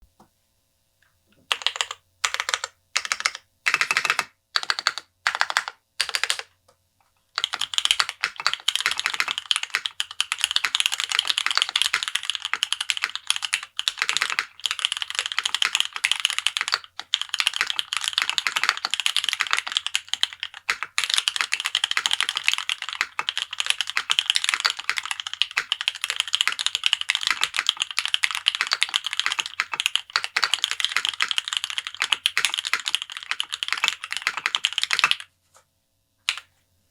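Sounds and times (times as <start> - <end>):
mechanical keyboard typing: 1.5 - 6.5, 7.4 - 35.3.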